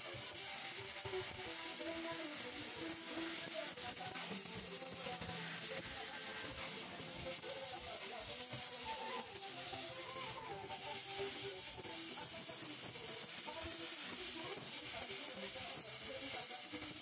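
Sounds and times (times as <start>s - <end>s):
welding torch flame hissing: 0.0s - 17.0s.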